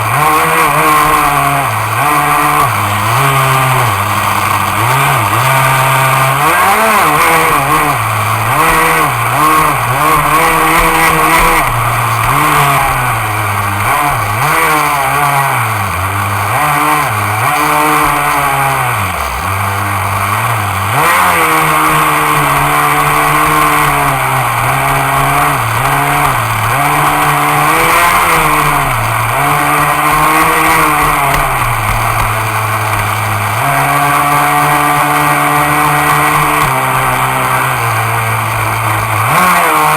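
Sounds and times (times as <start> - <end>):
model boat engine revving: 0.0 - 39.9.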